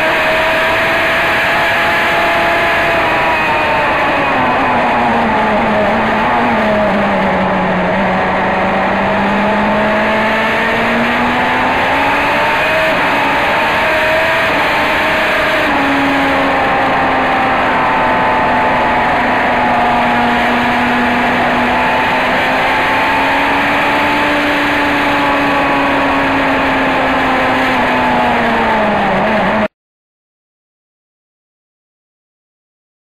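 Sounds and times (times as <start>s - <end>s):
race car engine at high revs: 0.0s - 29.7s.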